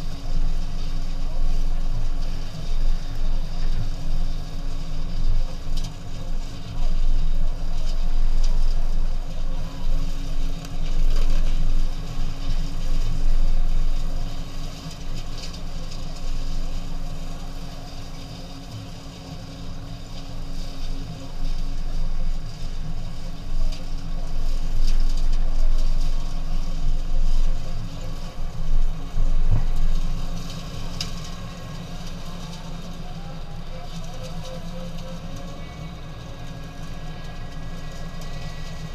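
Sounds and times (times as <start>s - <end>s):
constant hum: 0.0s - 38.9s
vehicle engines rumbling: 0.0s - 38.9s.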